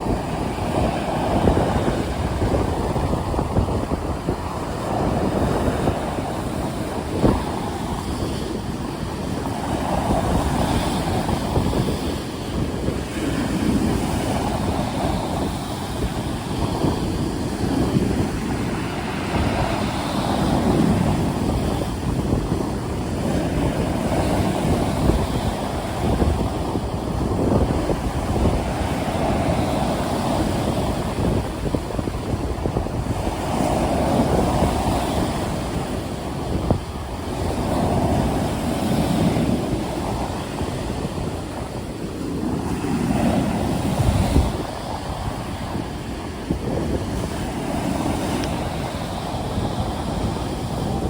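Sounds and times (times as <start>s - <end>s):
waves and surf washing: 0.0s - 51.0s
wind: 0.0s - 51.0s.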